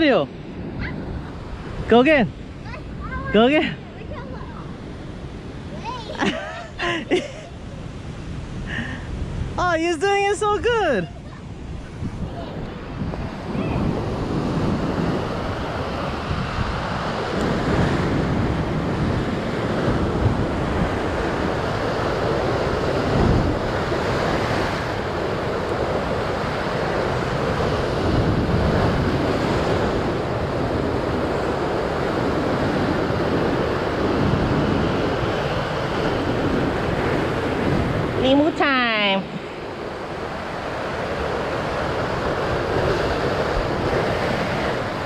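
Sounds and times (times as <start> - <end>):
ocean surf breaking on rocks: 0.0 - 45.0
wind buffeting microphone: 0.0 - 45.0.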